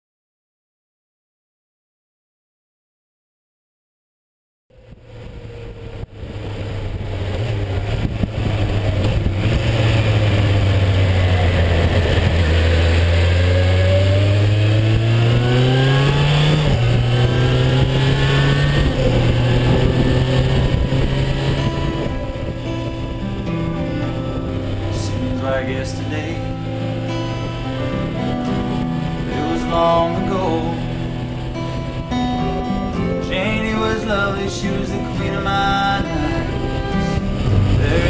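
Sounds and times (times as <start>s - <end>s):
motorcycle engine revving: 4.7s - 38.0s
wind rushing over microphone: 4.7s - 38.0s.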